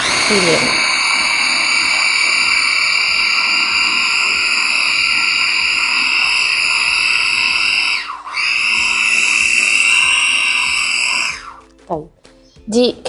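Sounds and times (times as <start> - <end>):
food chopper motor grinding: 0.0 - 11.6.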